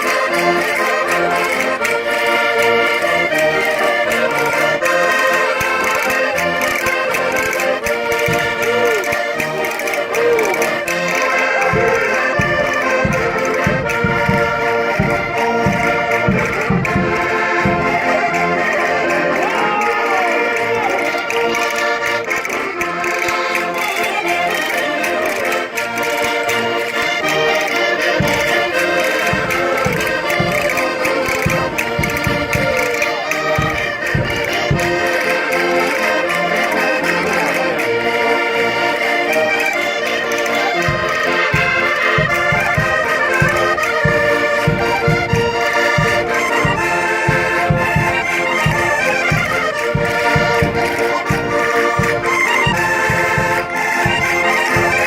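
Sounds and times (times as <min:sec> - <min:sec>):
button accordions playing folk dance: 0:00.0 - 0:55.0.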